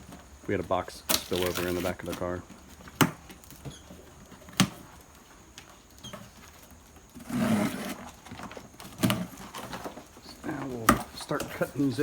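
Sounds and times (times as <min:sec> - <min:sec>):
birds scuffling in boxes: 0:00.0 - 0:12.0.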